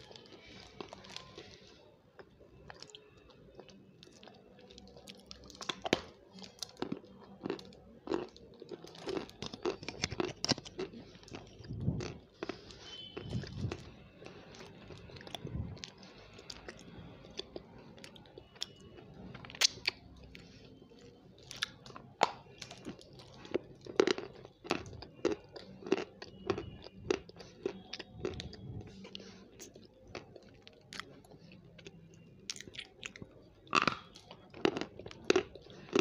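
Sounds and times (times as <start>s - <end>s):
crunchy snack chewing: 2.2s - 20.4s, 21.0s - 36.0s.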